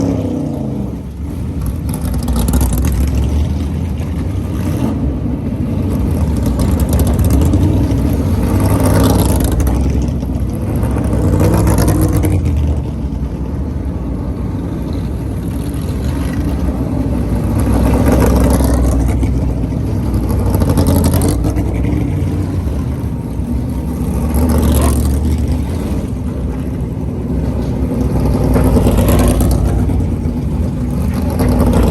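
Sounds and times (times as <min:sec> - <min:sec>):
race cars driving past: 0:00.0 - 0:31.9.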